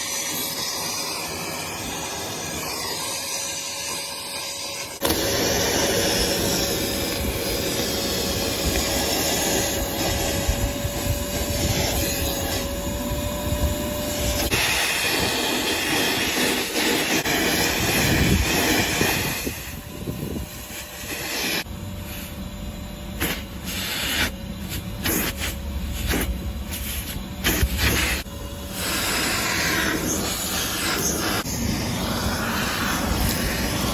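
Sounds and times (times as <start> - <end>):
shop vacuum running: 0.0 - 33.9.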